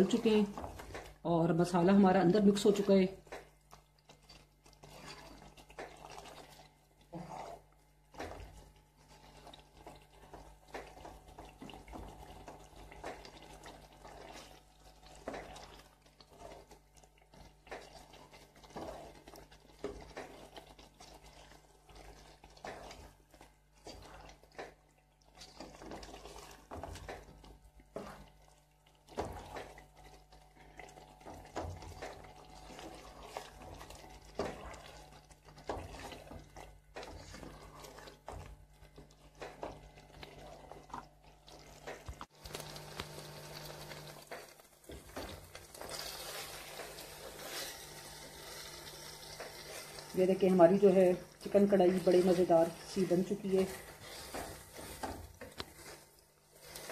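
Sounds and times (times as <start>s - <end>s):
spatula stirring thick gravy: 0.0s - 42.8s, 43.6s - 56.9s.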